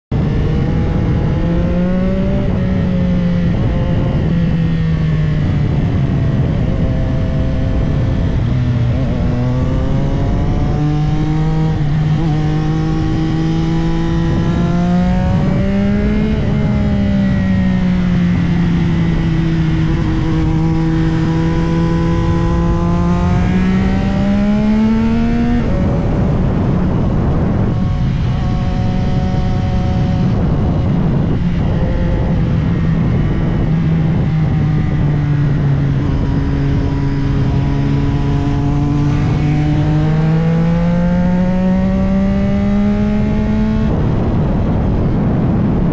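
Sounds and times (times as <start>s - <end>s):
motorcycle engine running hard: 0.1s - 45.9s
wind noise: 0.1s - 45.9s.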